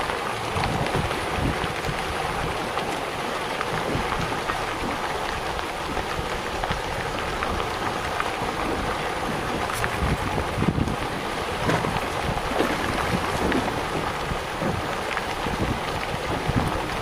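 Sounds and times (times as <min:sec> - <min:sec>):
fish splashing at water surface: 0:00.0 - 0:17.0
wind rumble on microphone: 0:00.0 - 0:17.0.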